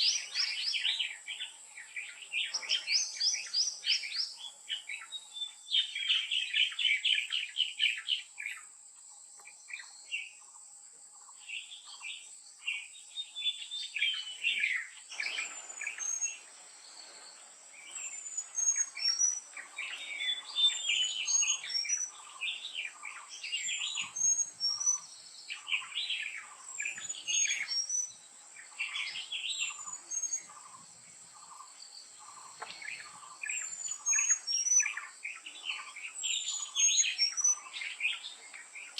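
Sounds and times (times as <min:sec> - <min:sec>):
wild birds chirping: 0:00.0 - 0:38.9
high insect drone: 0:05.7 - 0:38.9.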